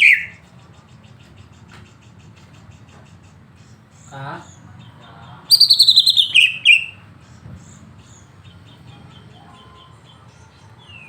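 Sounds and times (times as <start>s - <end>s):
bird singing: 0.0s - 2.0s, 2.7s - 11.0s.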